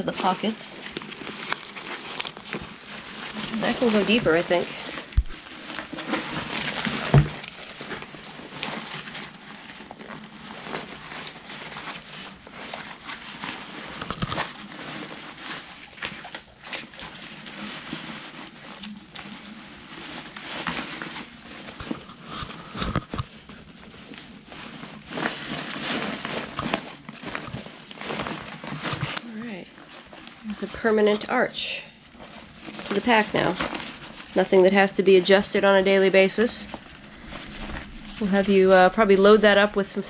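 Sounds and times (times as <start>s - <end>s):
backpack fabric rustling: 0.0s - 31.4s, 32.0s - 40.0s.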